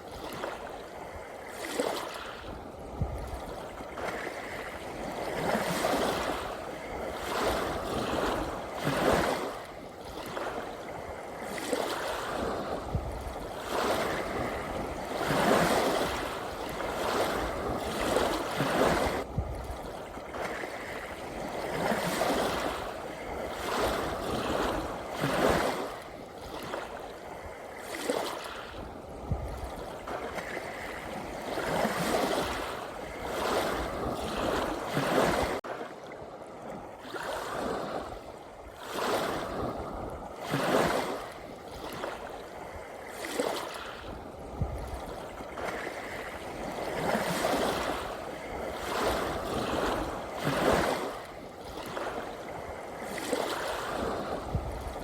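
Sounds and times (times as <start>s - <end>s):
small waves lapping: 0.0s - 55.0s.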